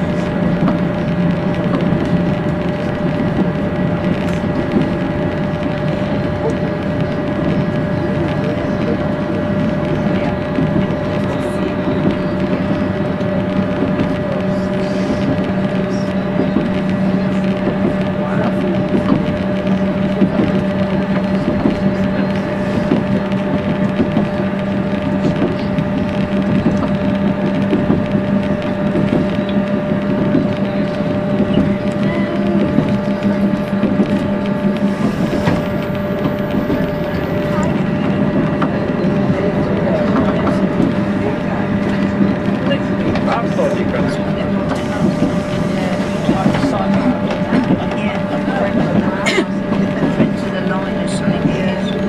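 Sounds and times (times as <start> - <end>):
diesel train engine hum: 0.0 - 52.0
wheels rumbling on rail: 0.0 - 52.0.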